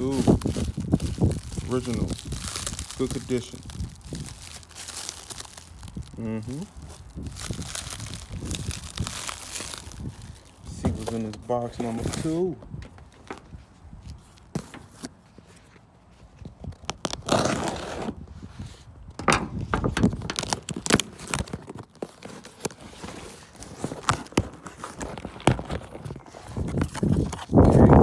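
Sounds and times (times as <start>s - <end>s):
cardboard and packaging rustling: 0.0s - 28.0s.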